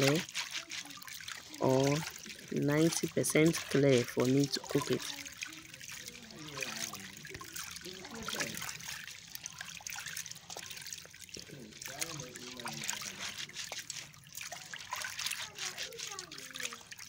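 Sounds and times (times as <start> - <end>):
grains rubbed in water: 0.0 - 9.6, 11.4 - 17.0
water trickling and sloshing: 0.0 - 17.0.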